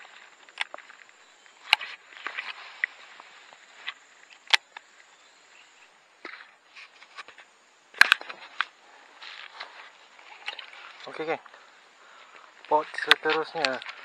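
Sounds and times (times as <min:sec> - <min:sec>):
faint high hiss: 0:00.0 - 0:14.0
footsteps on twigs and leaves: 0:00.0 - 0:14.0.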